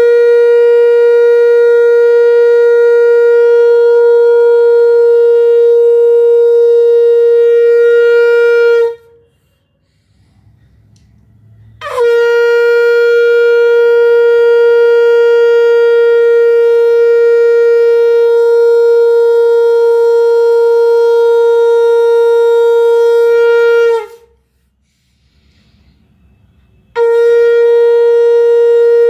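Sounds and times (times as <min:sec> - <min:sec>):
conch shell blast: 0:00.0 - 0:10.0, 0:11.5 - 0:24.4, 0:26.2 - 0:29.0.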